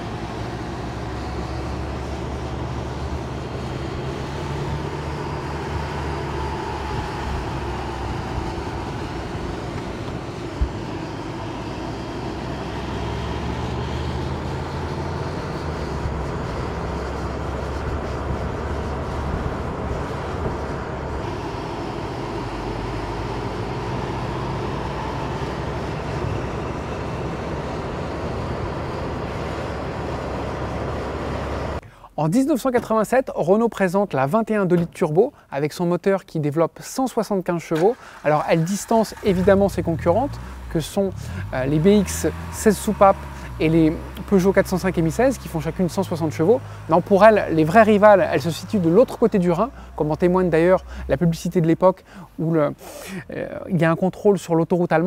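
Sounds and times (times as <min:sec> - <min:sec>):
car engine running: 0:00.0 - 0:31.8, 0:38.0 - 0:53.2.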